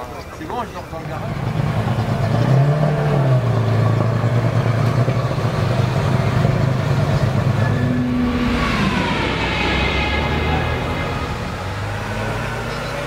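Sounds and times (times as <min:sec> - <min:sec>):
car engine idling and revving: 0:00.9 - 0:13.0.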